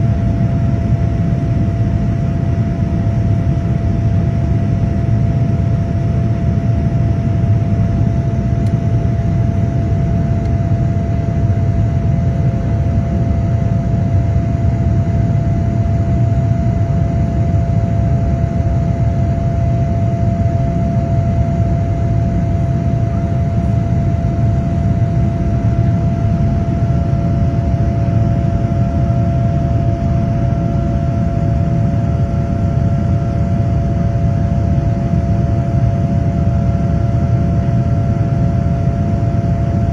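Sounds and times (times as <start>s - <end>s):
airliner cabin engine rumble: 0.0s - 39.9s
constant hum tone: 0.0s - 39.9s.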